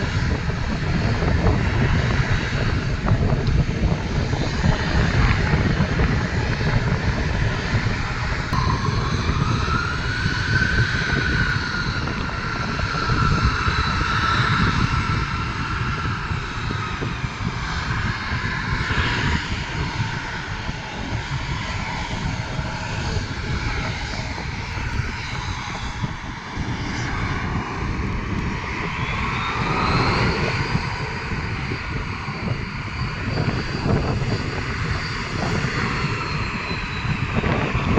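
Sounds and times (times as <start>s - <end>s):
airliner engines at takeoff: 0.0s - 37.9s.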